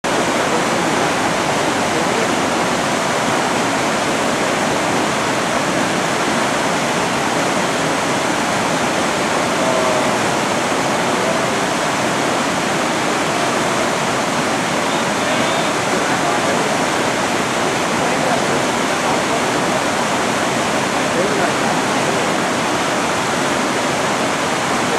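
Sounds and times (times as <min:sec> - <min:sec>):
river rapids rushing over rocks: 0:00.1 - 0:24.9.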